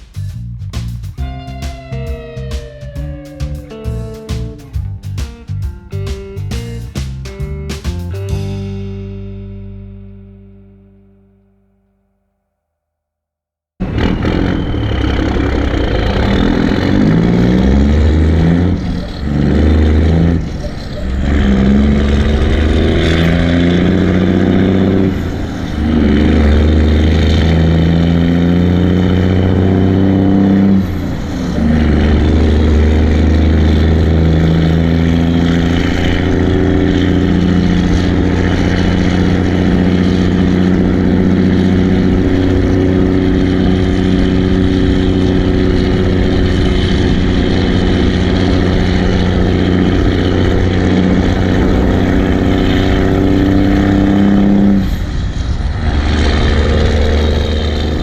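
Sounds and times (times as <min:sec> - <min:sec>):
truck diesel engine: 0:00.0 - 0:10.6, 0:13.8 - 0:58.0.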